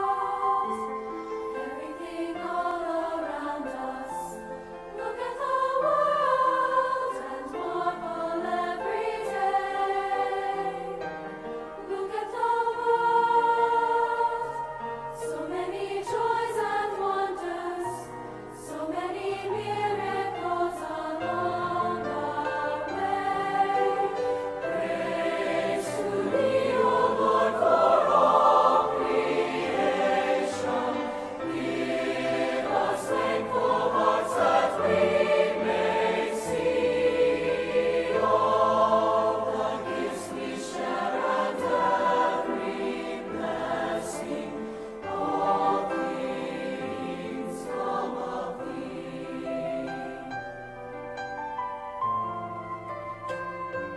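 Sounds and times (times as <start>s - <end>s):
choir singing: 0.0s - 51.4s.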